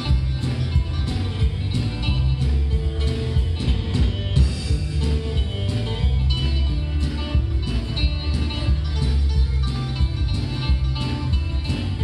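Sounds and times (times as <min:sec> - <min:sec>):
live country band playing: 0:00.0 - 0:12.0.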